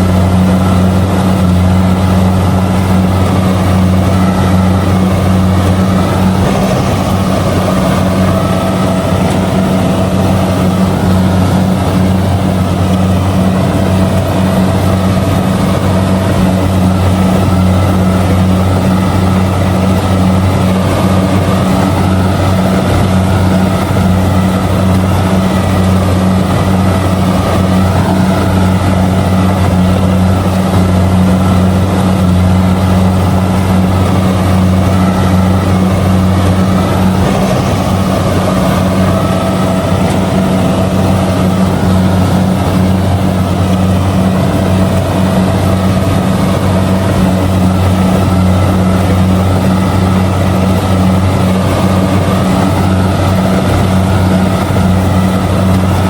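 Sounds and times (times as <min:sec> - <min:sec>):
combine harvester diesel engine drone: 0:00.0 - 0:56.0.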